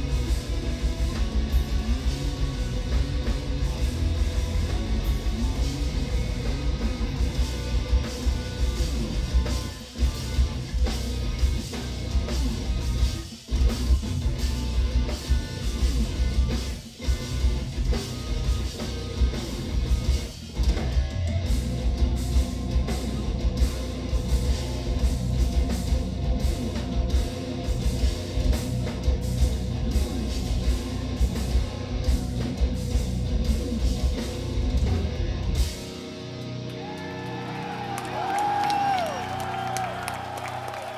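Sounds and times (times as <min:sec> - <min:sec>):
drum kit with pounding kick: 0:00.0 - 0:36.0
distorted electric guitars: 0:00.0 - 0:40.9.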